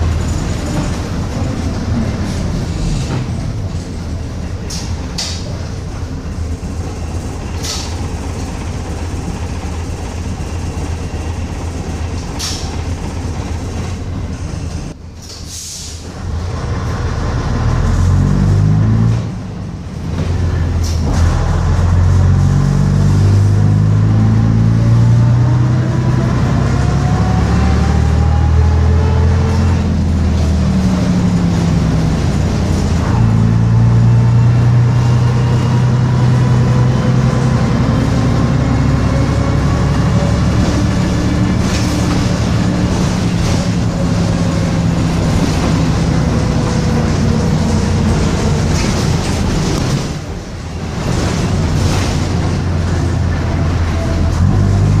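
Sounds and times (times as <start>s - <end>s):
bus diesel engine accelerating: 0.0s - 55.0s.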